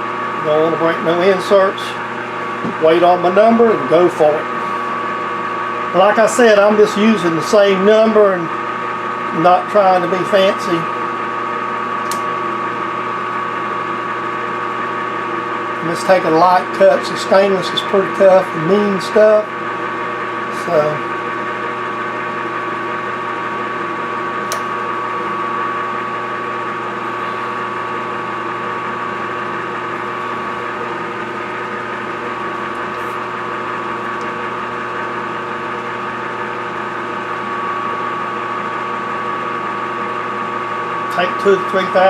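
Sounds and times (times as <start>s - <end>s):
metal lathe humming: 0.0s - 42.0s.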